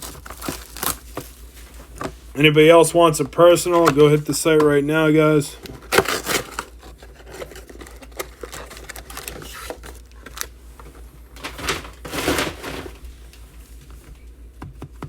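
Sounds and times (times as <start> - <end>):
card wrappers crinkling: 0.0 - 13.3
low steady hum: 0.0 - 15.0.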